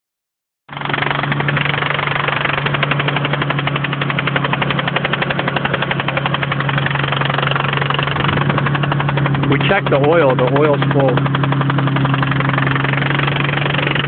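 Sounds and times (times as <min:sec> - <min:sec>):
car engine idling: 0:00.7 - 0:14.0
rapid metallic engine knock: 0:00.7 - 0:14.0.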